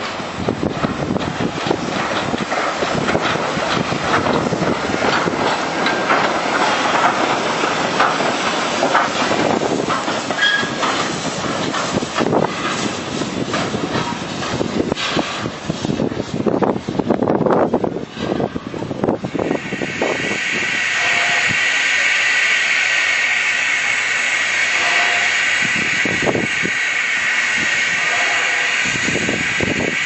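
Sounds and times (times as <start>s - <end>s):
steam hissing: 0.0s - 30.0s
train wheels clattering on rails: 0.0s - 30.0s.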